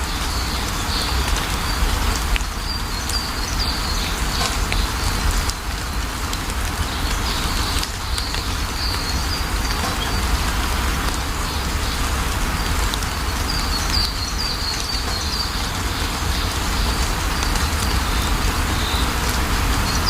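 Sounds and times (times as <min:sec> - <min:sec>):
birds chirping: 0:00.0 - 0:20.0
rain falling: 0:00.0 - 0:20.0.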